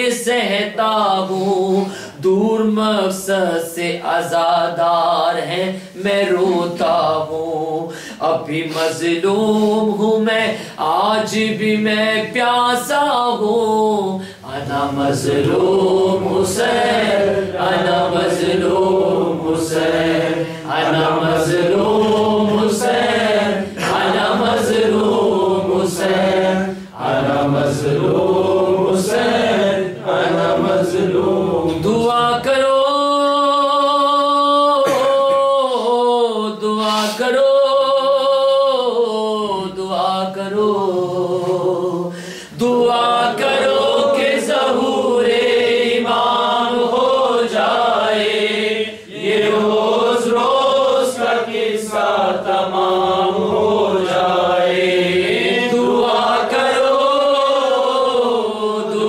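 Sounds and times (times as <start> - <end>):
men chanting a lament: 0.0 - 59.0.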